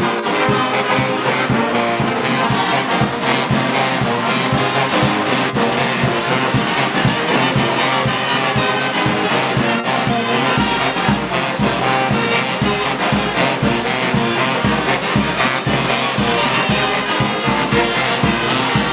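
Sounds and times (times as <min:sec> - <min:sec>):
brass band playing: 0:00.0 - 0:18.9
steady drumbeat: 0:00.0 - 0:18.9.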